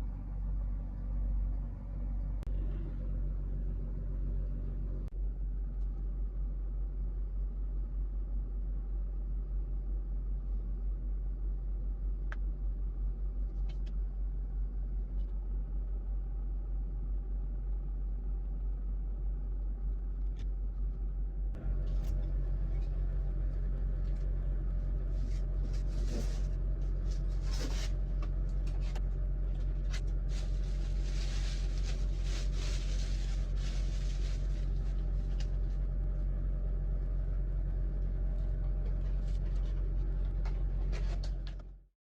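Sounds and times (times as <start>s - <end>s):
low rumble with hum: 0.0s - 42.0s.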